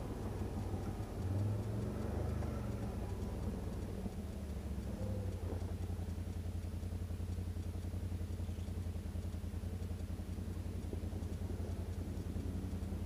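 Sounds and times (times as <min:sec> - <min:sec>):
quad bike engine idling: 0:00.0 - 0:13.0.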